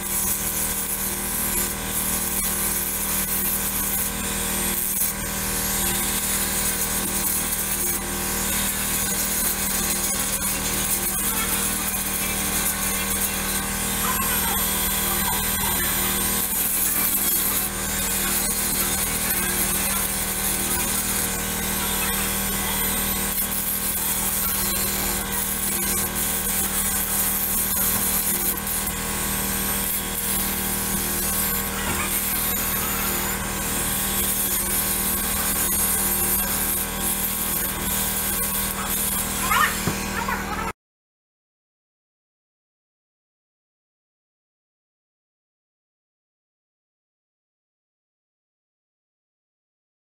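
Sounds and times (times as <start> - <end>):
angle grinder grinding steel: 0.0 - 40.7.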